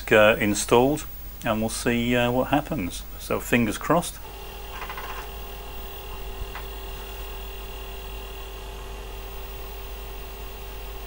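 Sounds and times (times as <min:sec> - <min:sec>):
computer electrical hum: 0:00.0 - 0:11.0.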